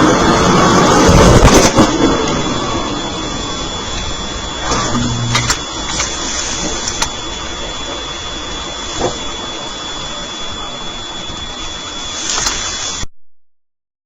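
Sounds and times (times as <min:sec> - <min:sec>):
aircraft engine with high whine: 0:00.0 - 0:13.1.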